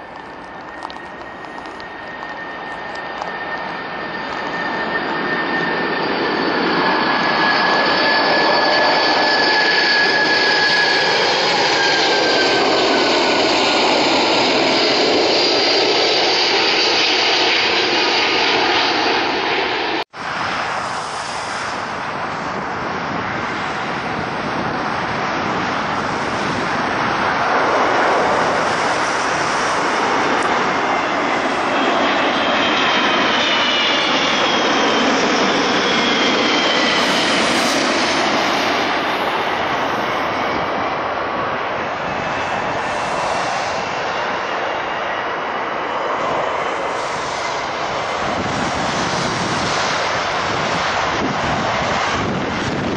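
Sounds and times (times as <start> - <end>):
jet engines roaring and whining: 0.0 - 52.9.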